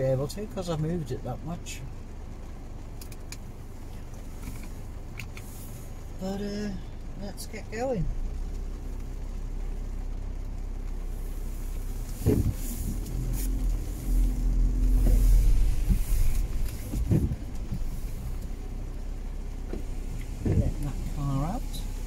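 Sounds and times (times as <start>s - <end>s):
car engine rumble: 0.0s - 22.0s
windscreen wipers sweeping: 0.0s - 22.0s.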